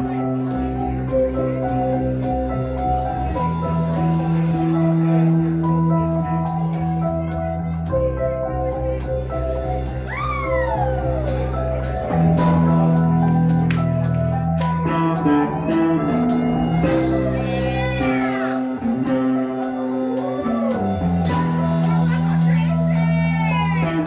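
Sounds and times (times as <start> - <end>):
bass notes: 0.0 - 24.0
electric guitar bending notes: 0.0 - 24.0.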